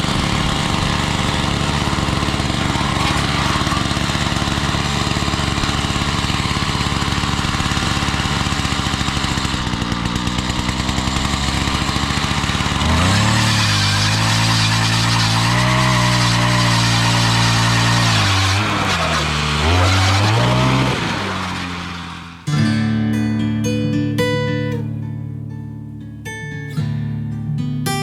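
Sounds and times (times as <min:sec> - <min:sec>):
small petrol engine running: 0:00.0 - 0:23.0.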